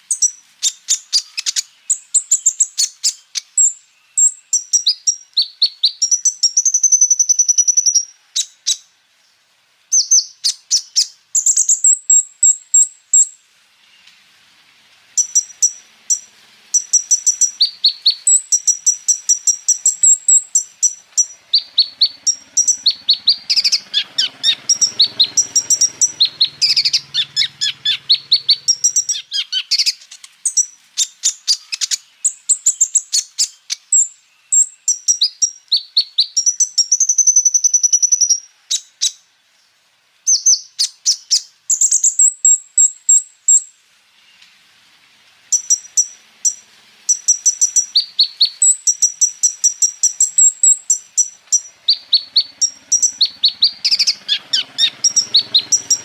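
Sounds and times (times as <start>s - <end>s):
bird singing high chirps and trills: 0.0s - 14.2s, 15.2s - 44.5s, 45.5s - 56.0s.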